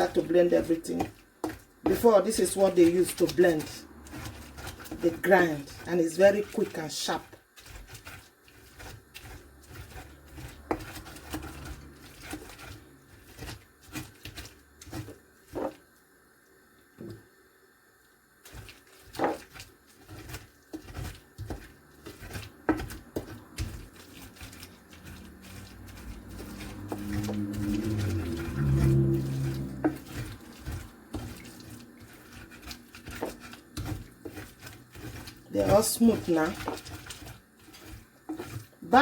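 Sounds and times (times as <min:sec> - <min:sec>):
hand grinder knocking and scraping: 0:00.0 - 0:15.7, 0:18.5 - 0:39.0.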